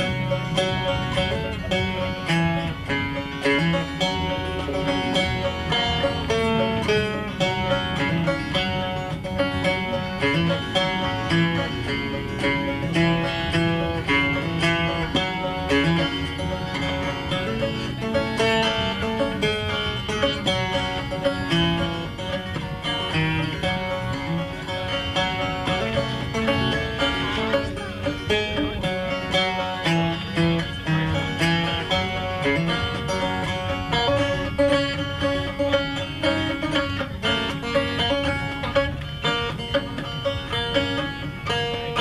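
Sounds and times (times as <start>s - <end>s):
bluegrass banjo and guitar music: 0.0s - 42.0s.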